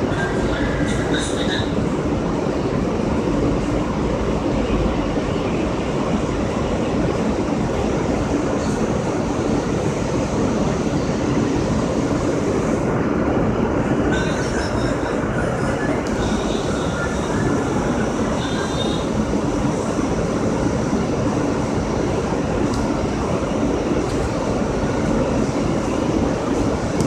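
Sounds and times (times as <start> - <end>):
subway car rumbling: 0.0 - 27.0.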